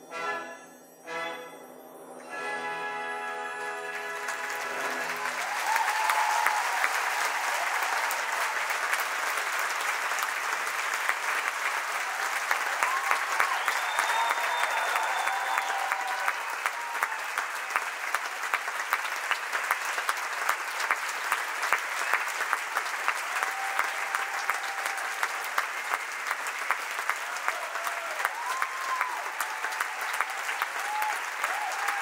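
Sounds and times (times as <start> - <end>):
audience applauding: 3.5 - 32.0.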